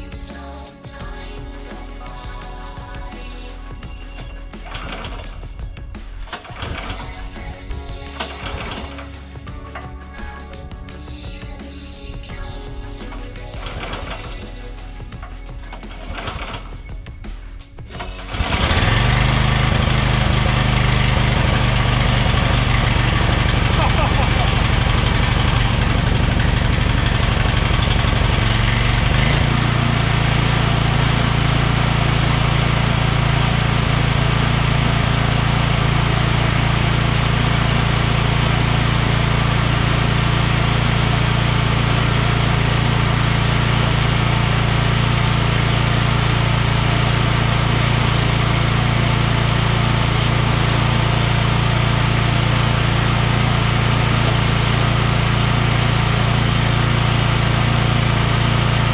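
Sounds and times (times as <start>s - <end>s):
small gasoline engine running: 1.0s - 10.9s, 12.4s - 58.9s.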